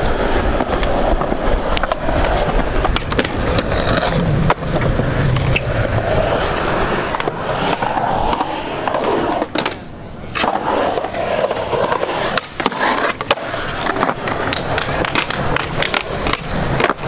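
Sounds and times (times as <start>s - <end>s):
skateboard clacking on ground: 0.0s - 17.0s
skateboard wheels rumbling: 0.0s - 17.0s.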